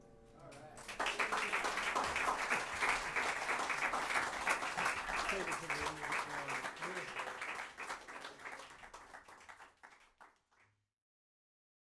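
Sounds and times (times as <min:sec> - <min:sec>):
small audience applauding: 0:00.5 - 0:10.8.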